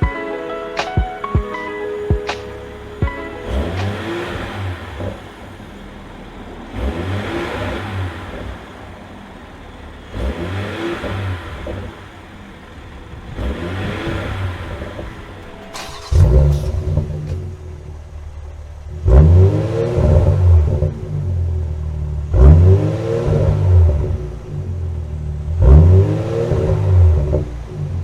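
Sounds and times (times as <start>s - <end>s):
car engine revving: 0.8s - 28.0s.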